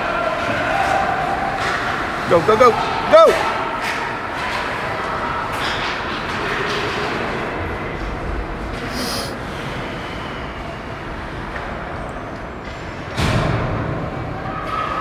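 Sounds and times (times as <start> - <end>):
skaters on ice: 0.0 - 13.2.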